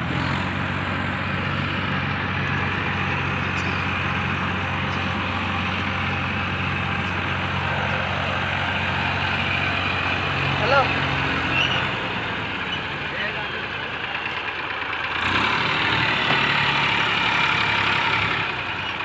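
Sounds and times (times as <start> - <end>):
diesel tractor engines droning: 0.0 - 19.0.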